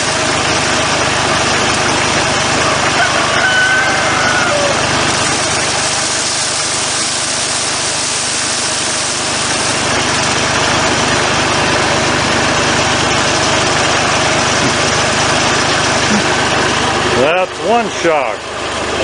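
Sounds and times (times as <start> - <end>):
hammer mill running: 0.0 - 19.0.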